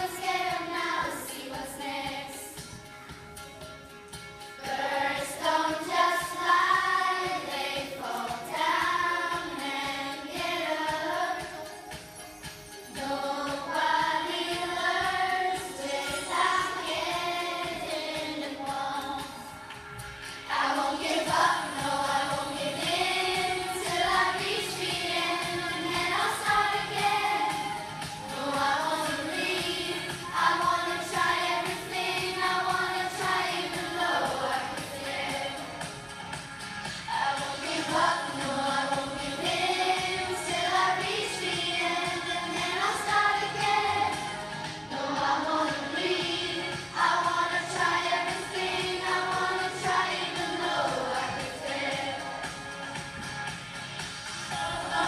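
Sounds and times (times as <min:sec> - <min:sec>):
children singing together: 0:00.0 - 0:02.7, 0:04.6 - 0:12.2, 0:12.9 - 0:19.5, 0:20.4 - 0:35.8, 0:37.1 - 0:52.7, 0:54.5 - 0:55.0.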